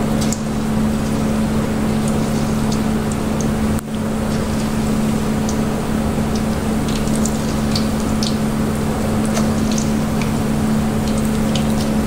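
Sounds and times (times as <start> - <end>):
low hum: 0.0 - 12.0
oil bubbling and sizzling: 0.0 - 12.0
oil crackling and popping: 0.1 - 12.0.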